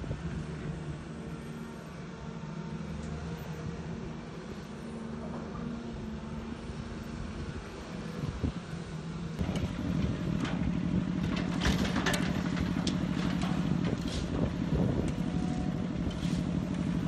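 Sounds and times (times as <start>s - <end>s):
excavator diesel engine running: 0.1s - 17.0s.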